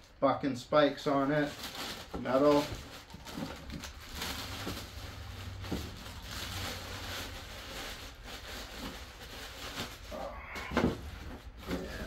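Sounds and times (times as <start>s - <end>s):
plastic wrapping crinkling: 1.0s - 12.0s.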